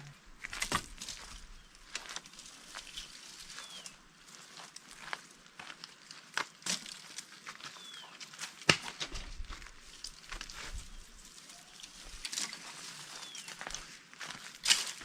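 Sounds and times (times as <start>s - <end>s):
camping gear rustling and clicking: 0.4s - 5.1s, 5.8s - 15.0s.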